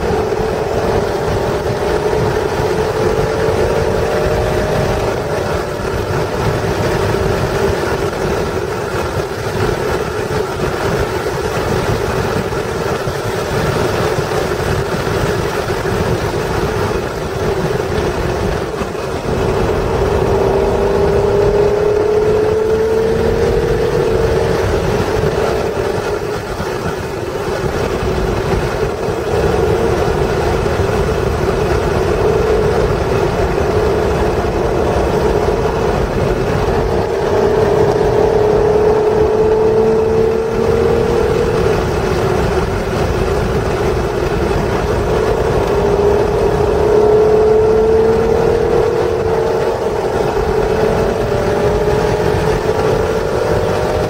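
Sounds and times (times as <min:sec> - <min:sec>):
car engine accelerating: 0:00.0 - 0:54.0
wind noise: 0:00.0 - 0:54.0.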